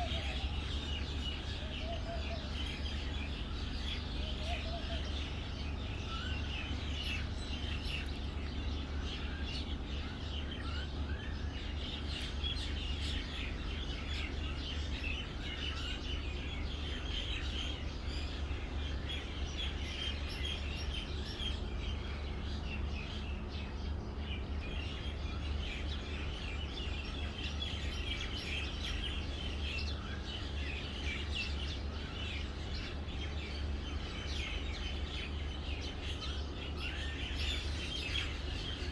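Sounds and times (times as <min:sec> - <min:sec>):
songbirds chirping and twittering: 0:00.0 - 0:38.9
steady low hum: 0:00.0 - 0:38.9.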